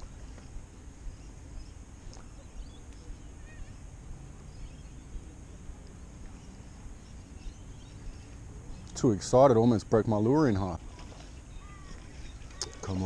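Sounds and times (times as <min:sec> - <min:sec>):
faint bird chirps: 0:00.0 - 0:09.8, 0:10.4 - 0:13.0
low steady rumble: 0:00.0 - 0:13.0.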